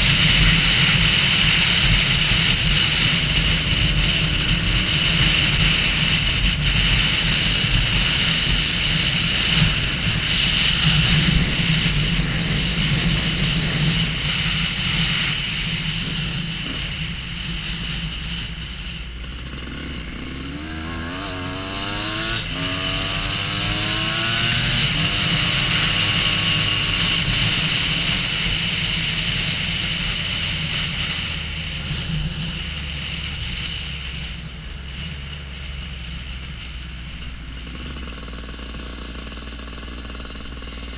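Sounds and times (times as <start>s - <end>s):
wind noise: 0.0s - 38.0s
motorcycle engine revving: 0.0s - 40.9s.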